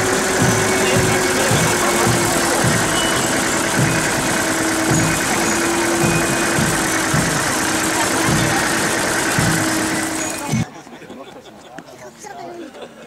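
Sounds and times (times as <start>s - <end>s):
vehicle engine idling: 0.0s - 10.6s.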